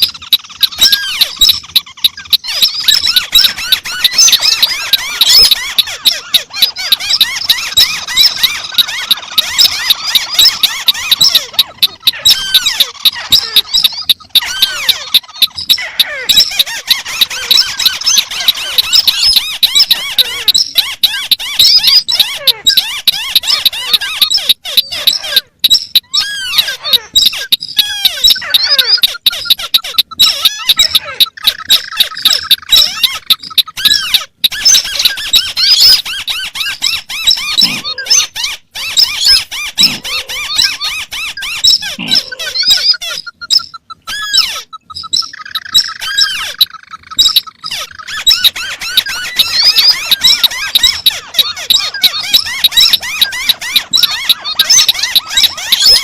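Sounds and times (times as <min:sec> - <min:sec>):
chorus of squeaky bird chirps: 0:00.0 - 0:56.0.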